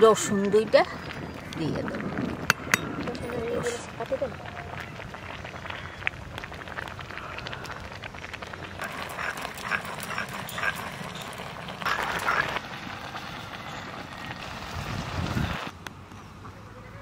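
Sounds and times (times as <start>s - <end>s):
rice pot simmering with crackles: 0.0s - 16.2s.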